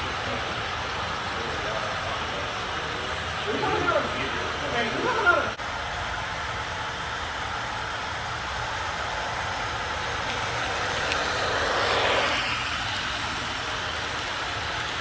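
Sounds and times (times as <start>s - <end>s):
model train running hiss: 0.0s - 15.0s.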